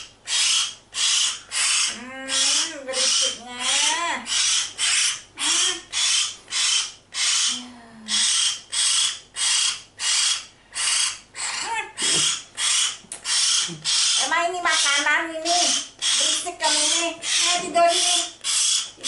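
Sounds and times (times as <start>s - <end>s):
bird chick harsh begging calls: 0.0s - 19.0s.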